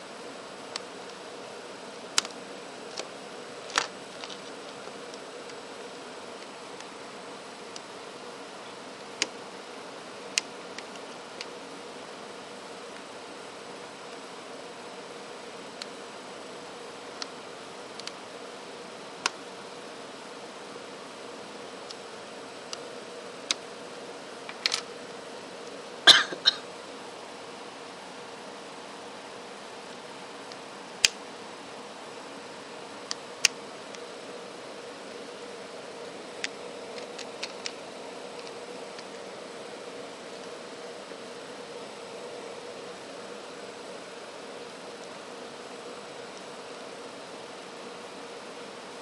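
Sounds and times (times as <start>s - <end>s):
faint hum: 0.0s - 49.0s
steady background hiss: 0.0s - 49.0s.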